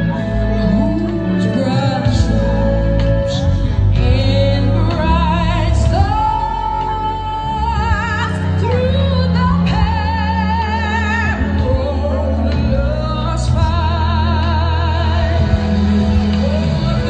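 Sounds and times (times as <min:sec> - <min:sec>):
low steady accompaniment: 0:00.0 - 0:17.0
person singing with vibrato: 0:00.0 - 0:17.0.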